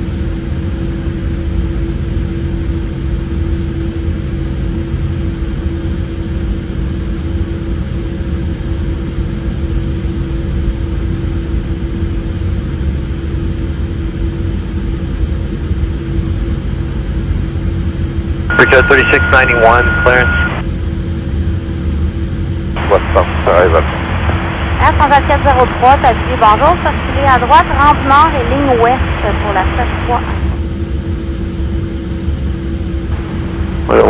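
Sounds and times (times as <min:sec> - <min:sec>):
aircraft cabin low rumble: 0:00.0 - 0:34.0
steady hum tone: 0:00.0 - 0:34.0.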